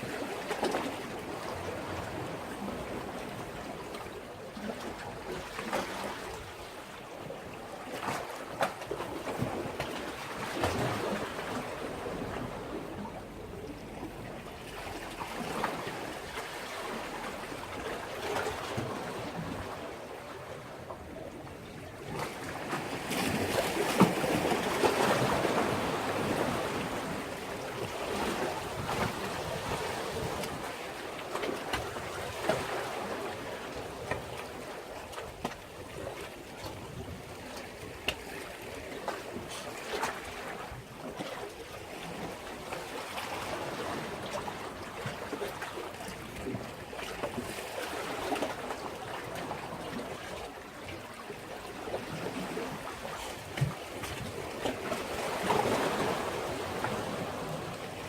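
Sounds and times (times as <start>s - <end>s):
waves splashing against breakwater: 0.0s - 58.0s.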